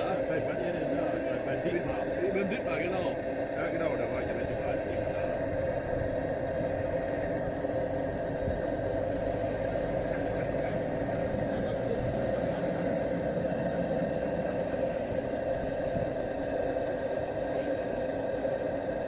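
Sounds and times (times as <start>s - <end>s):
blowlamp flame roaring: 0.0s - 19.0s.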